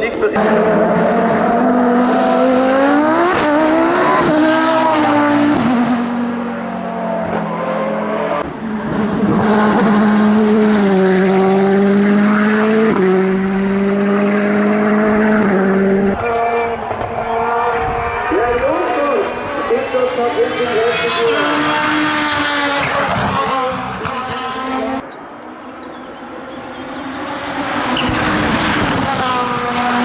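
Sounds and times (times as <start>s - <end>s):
race car engine at full throttle: 0.0s - 30.0s.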